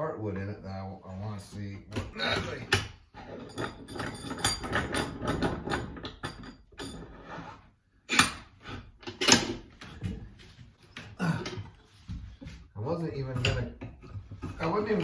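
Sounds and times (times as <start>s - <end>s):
knocks and clattering: 1.8s - 7.2s, 8.2s - 15.0s.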